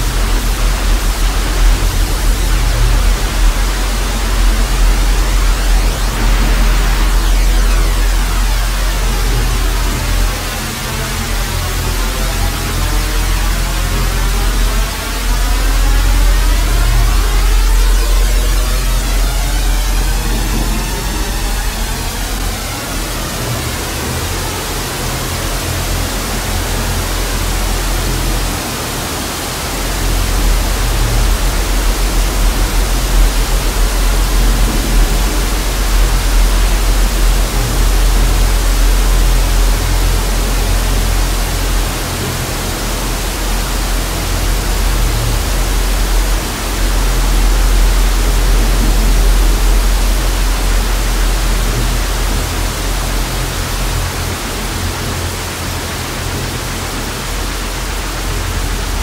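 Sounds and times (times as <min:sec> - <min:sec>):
deep low rumble: 0:00.0 - 0:28.8, 0:29.6 - 0:55.3, 0:56.3 - 0:59.0
tv static hiss: 0:00.0 - 0:59.0.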